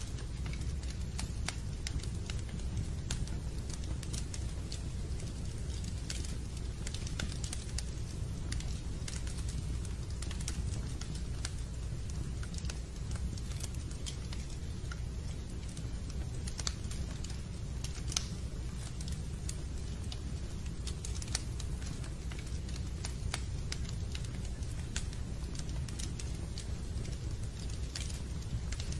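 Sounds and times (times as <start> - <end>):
fireplace fire crackling: 0.0 - 28.9.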